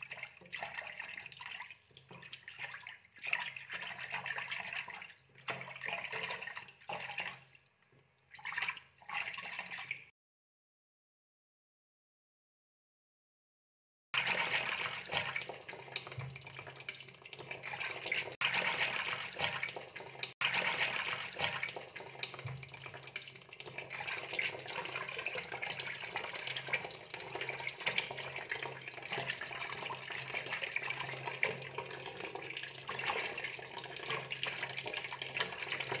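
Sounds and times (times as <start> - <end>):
water running and splashing: 0.0 - 7.6, 14.2 - 36.0.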